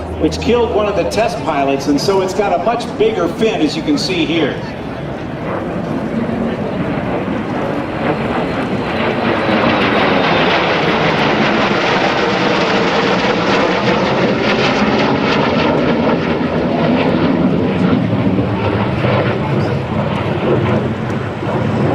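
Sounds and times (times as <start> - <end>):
jet engine roar passing: 0.0 - 21.9.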